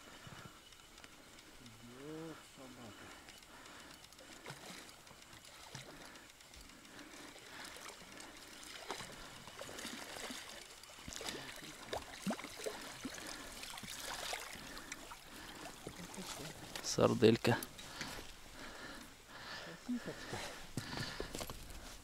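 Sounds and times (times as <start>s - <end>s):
river water lapping at boat: 0.0s - 22.0s.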